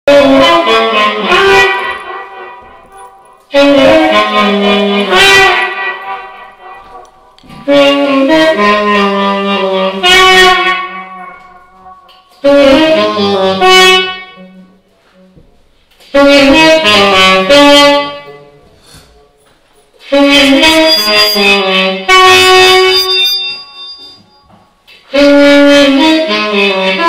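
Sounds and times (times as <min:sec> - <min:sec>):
tenor saxophone free jazz: 0:00.1 - 0:15.4, 0:16.0 - 0:19.2, 0:20.0 - 0:27.0.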